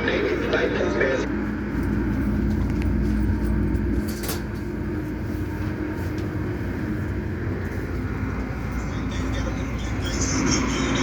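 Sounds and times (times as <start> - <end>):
train motor hum: 0.0 - 11.0
train wheels rumbling on rail: 1.2 - 11.0.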